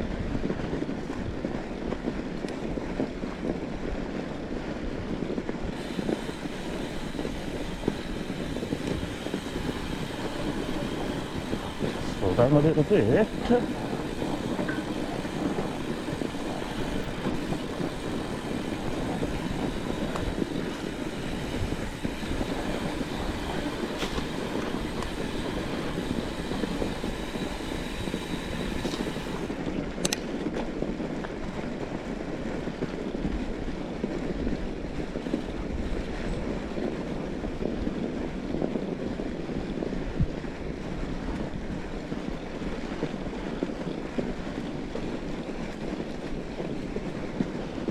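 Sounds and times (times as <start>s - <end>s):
bike tyres rolling on snow: 0.0s - 47.9s
sharp clicks from bike: 0.2s - 3.7s, 5.4s - 47.9s.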